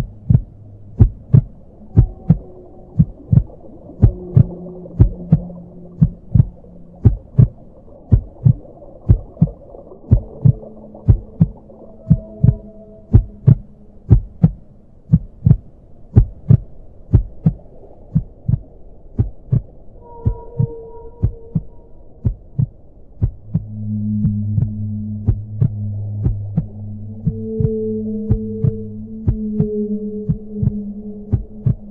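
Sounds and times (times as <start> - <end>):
heartbeat-like thumps: 0.0 - 31.9
low droning hum: 0.0 - 31.9.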